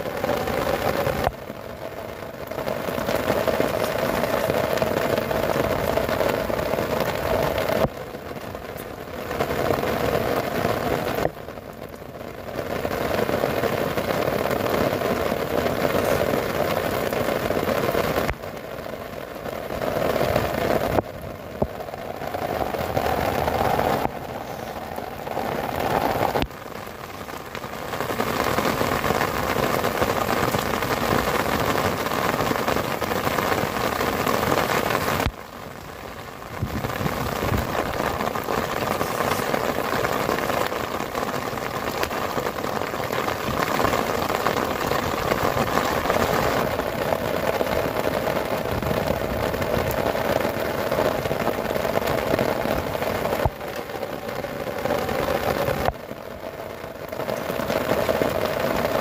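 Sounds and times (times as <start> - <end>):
heavy rain on tent fabric: 0.0 - 59.0.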